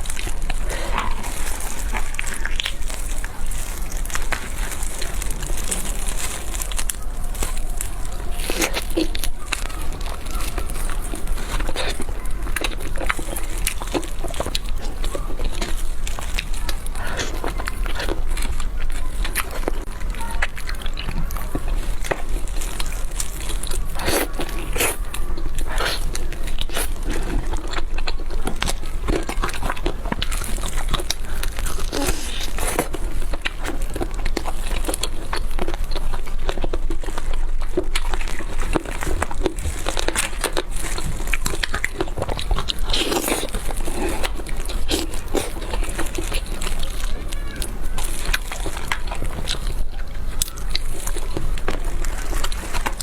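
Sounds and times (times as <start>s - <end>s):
person biting and chewing: 0.0s - 53.0s
small crackly clicks: 0.0s - 53.0s.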